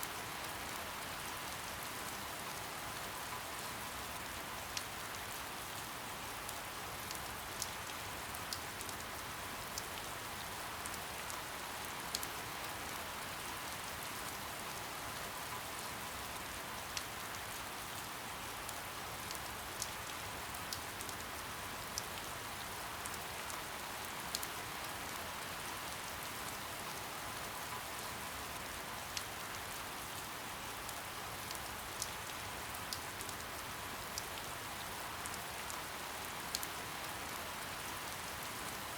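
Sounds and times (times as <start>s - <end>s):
soft rain hiss: 0.0s - 38.9s.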